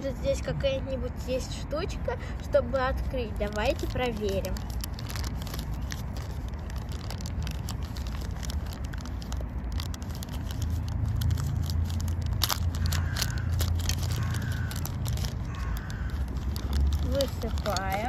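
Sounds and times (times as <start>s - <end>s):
plastic wrapping crinkling: 3.0s - 18.0s.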